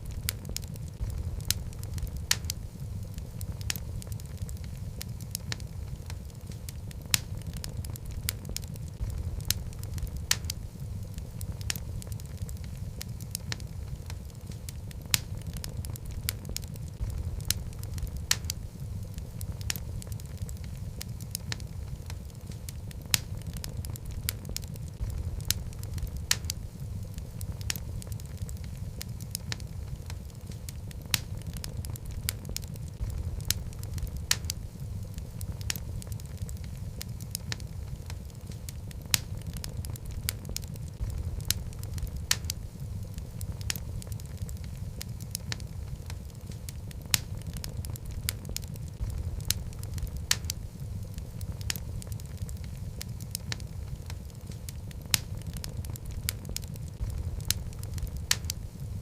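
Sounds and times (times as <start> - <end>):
low rumble of flames: 0.0 - 59.0
sharp pops of burning wood: 0.0 - 59.0
wood crackling and snapping: 0.0 - 59.0.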